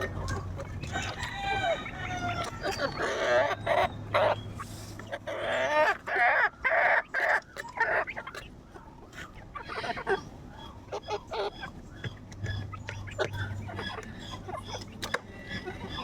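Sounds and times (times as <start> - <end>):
chickens clucking and calling: 0.0 - 16.0.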